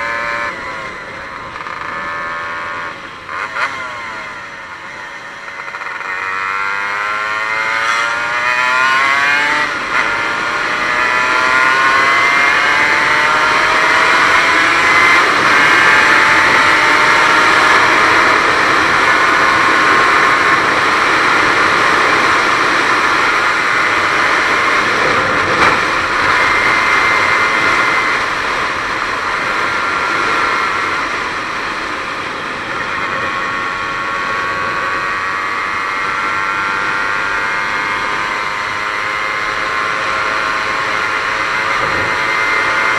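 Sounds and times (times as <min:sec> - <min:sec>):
two-stroke engine accelerating hard: 0:00.0 - 0:42.9.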